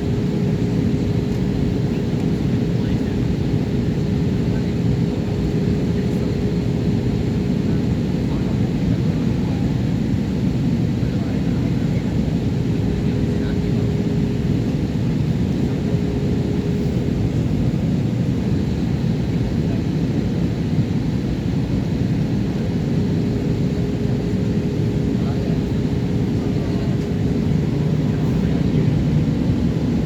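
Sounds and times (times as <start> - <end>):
jet engine and airflow roar: 0.0 - 30.0.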